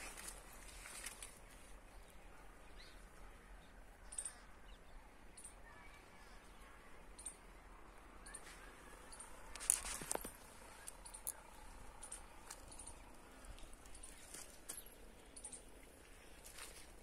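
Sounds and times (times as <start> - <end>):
faint outdoor hiss: 0.0 - 17.0
small birds chirping: 0.0 - 17.0.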